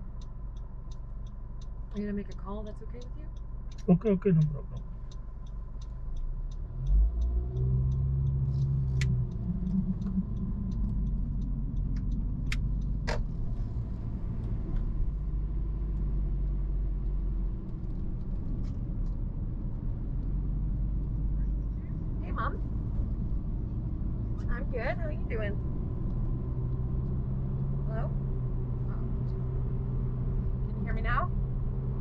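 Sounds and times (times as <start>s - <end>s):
car engine accelerating: 0.0s - 32.0s
road rumble inside car: 0.0s - 32.0s
turn signal ticking: 0.0s - 32.0s.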